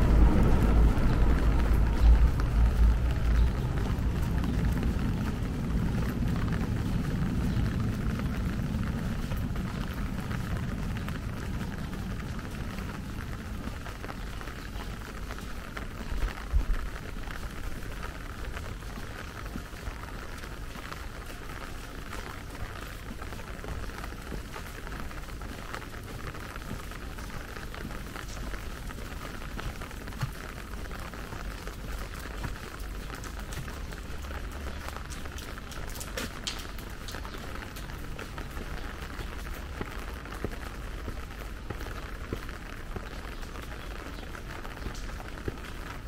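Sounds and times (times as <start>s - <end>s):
rain on wet paving: 0.0s - 46.0s.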